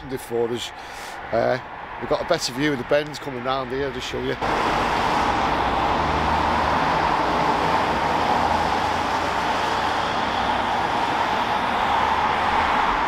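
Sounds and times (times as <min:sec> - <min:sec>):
road traffic hum: 0:00.0 - 0:13.0.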